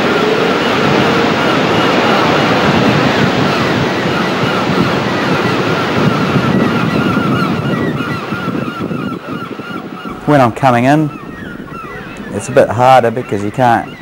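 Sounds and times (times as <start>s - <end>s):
heavy surf breaking: 0.0s - 8.3s, 9.2s - 14.0s
birds calling: 0.0s - 14.0s
wind buffeting microphone: 0.0s - 14.0s.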